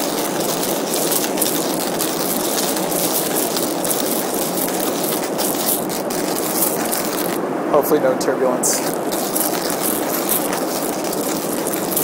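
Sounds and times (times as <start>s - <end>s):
hand coffee grinder crunching beans: 0.0s - 7.4s, 8.7s - 12.0s
airliner cabin noise: 0.0s - 12.0s.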